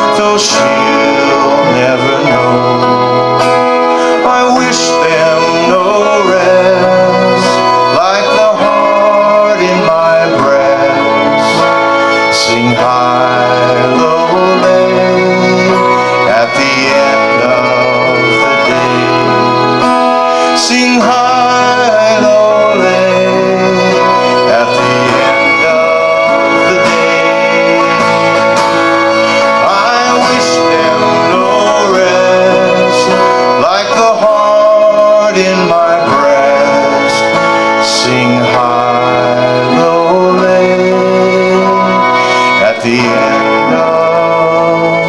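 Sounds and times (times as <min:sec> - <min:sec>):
guitar accompaniment: 0:00.0 - 0:45.0
wavering melody line: 0:00.0 - 0:45.0.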